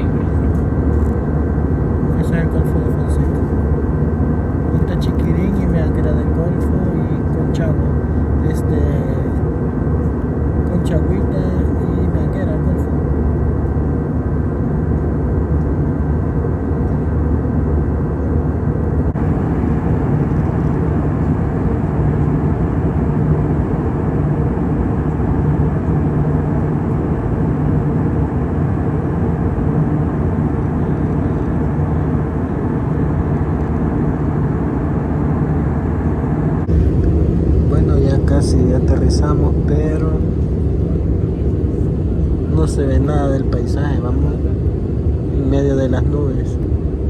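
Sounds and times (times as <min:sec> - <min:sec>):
airliner cabin engine rumble: 0:00.0 - 0:47.0
faint higher hum: 0:00.0 - 0:47.0.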